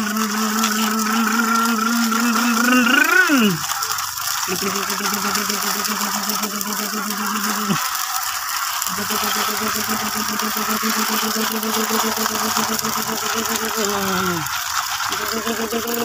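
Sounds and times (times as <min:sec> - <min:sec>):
toy truck wheels whirring: 0:00.0 - 0:16.0.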